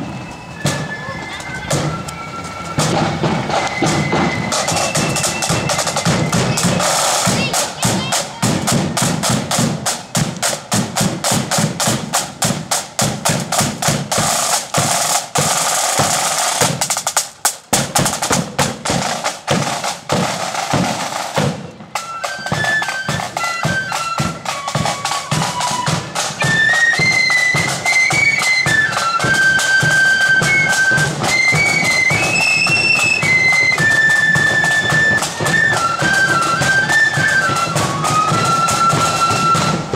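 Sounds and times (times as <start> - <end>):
flutes playing melody: 0.0 - 39.9
snare and bass drums marching: 0.0 - 39.9.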